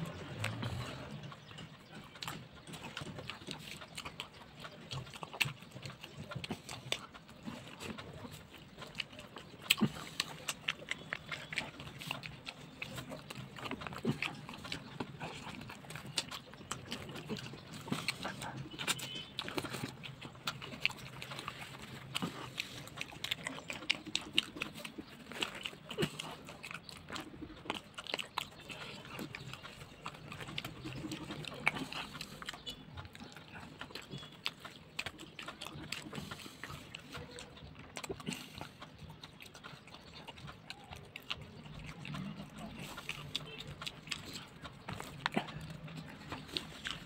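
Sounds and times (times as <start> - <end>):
person chewing and lip smacking: 0.0 - 47.0.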